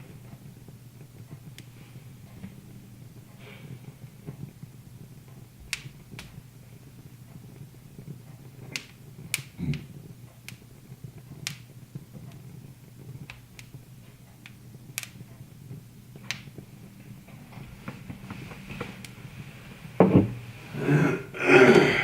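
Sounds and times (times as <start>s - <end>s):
low steady hum: 0.0s - 22.0s
wood fire crackling: 0.0s - 22.0s.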